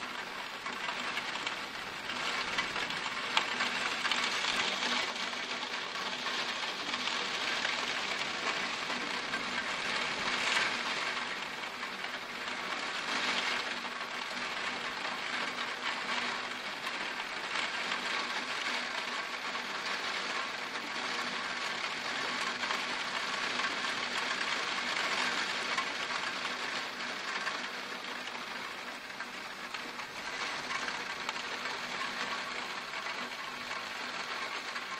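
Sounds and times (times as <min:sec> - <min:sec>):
torrential rain pouring: 0:00.0 - 0:34.9.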